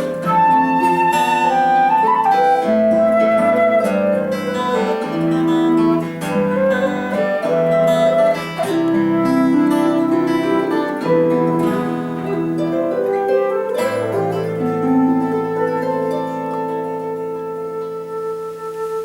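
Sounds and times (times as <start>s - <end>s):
plucked harp: 0.0s - 18.7s
flute melody: 0.0s - 19.0s.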